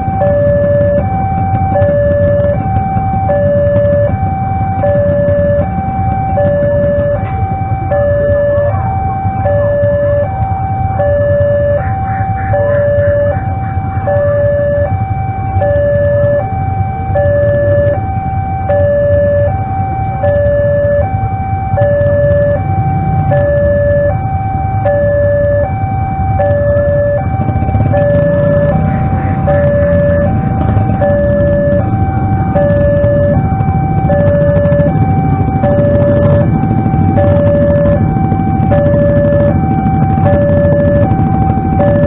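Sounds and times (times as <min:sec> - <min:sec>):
level crossing two-tone alarm: 0:00.0 - 0:42.0
motorcycle engines idling: 0:00.0 - 0:42.0.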